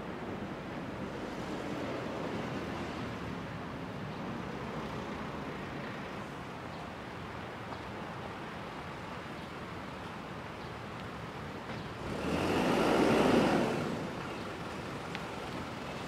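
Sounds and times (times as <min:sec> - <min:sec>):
city road traffic hum: 0:00.0 - 0:16.0.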